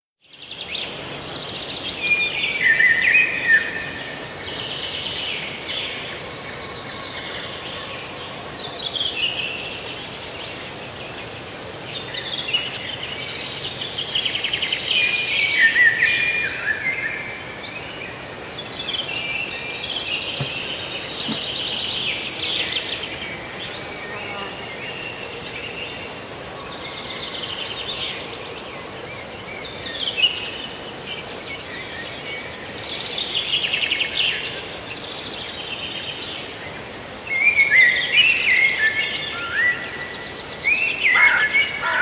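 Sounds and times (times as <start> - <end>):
outdoor background hiss: 0.2 - 42.0.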